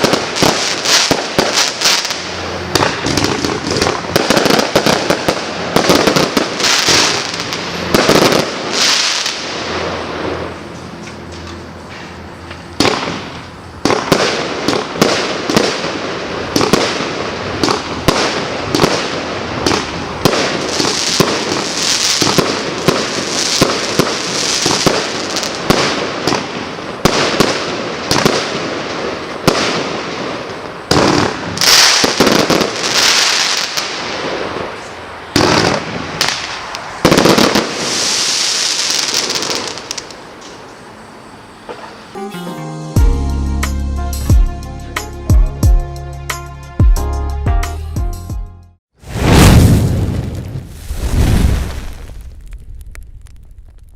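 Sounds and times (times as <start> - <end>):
firework shots with crackle: 0.0 - 10.7, 12.6 - 40.7, 49.0 - 53.9.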